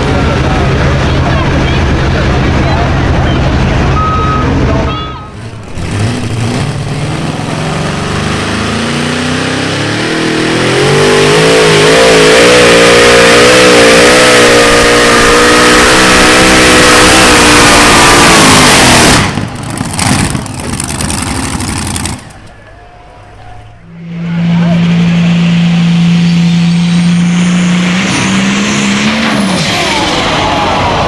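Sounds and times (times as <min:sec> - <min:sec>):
heavy vehicle engine revving: 0:00.0 - 0:22.6, 0:23.6 - 0:31.0.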